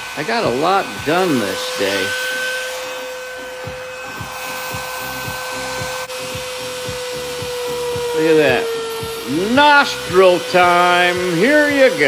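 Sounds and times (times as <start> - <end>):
die grinder whining: 0.0 - 12.0
grinder bit cutting wood: 0.0 - 12.0.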